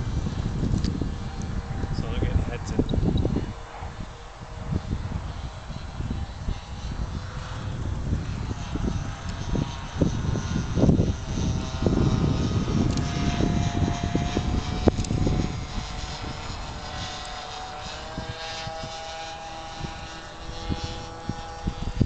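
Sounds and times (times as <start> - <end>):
model plane motors droning: 0.0 - 22.0
wind rumble on microphone: 0.0 - 22.0.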